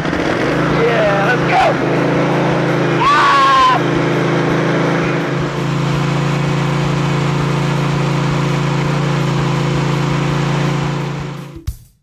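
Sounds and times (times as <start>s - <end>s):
lawn mower engine running: 0.0s - 11.7s.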